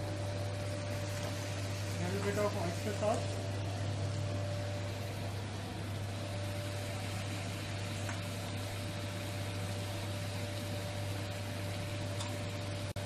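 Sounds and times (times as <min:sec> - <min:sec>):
gas wok burner roaring: 0:00.0 - 0:13.0
thin steady whine: 0:00.0 - 0:13.0.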